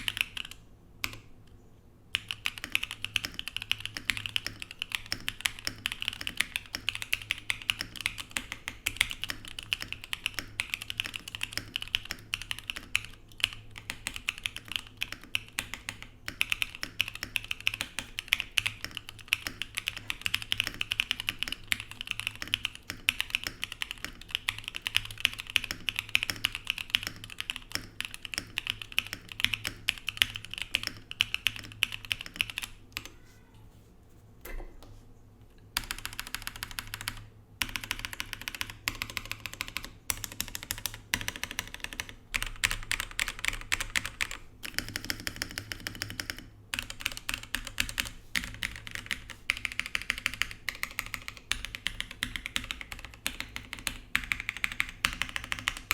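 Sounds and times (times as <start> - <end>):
mechanical keyboard typing: 0.0 - 1.3, 2.1 - 33.1, 35.8 - 55.9.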